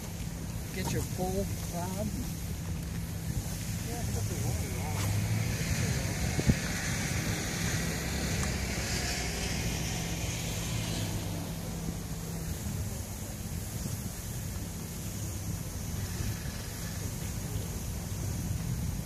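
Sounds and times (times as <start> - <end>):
low engine hum: 0.0 - 19.0
wind noise on microphone: 0.0 - 19.0.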